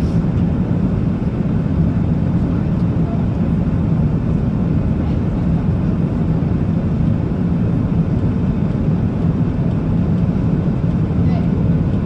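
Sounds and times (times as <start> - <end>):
airliner low rumble: 0.0 - 12.0.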